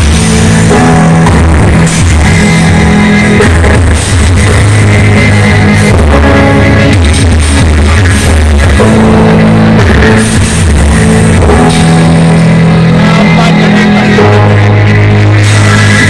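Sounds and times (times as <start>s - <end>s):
heavy bass notes: 0.0s - 16.0s
rock music over sound system: 0.0s - 16.0s.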